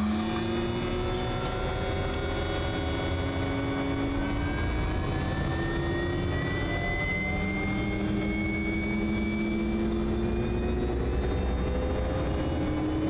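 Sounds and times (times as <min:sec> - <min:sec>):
turboprop engine whine rising: 0:00.0 - 0:13.0.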